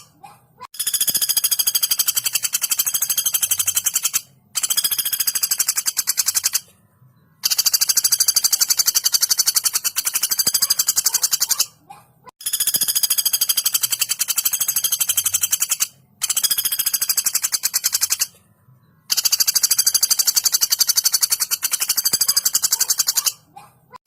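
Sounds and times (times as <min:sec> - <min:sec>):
woodpecker rattling trills: 0:00.0 - 0:06.7, 0:07.4 - 0:18.4, 0:19.0 - 0:24.0.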